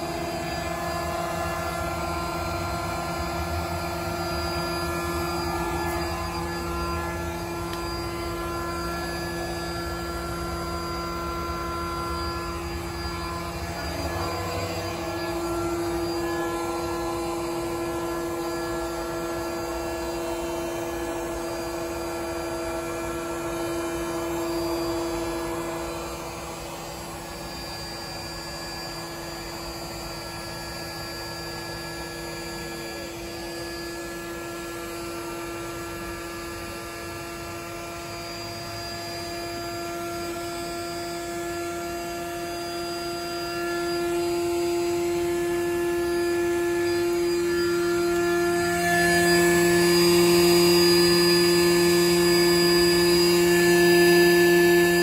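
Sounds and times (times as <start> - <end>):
electric air pump humming: 0.0 - 55.0.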